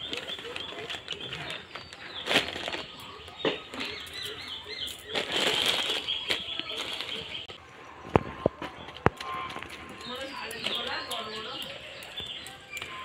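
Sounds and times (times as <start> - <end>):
dry dung crackling and rustling: 0.0 - 13.0
small birds chirping: 0.0 - 13.0.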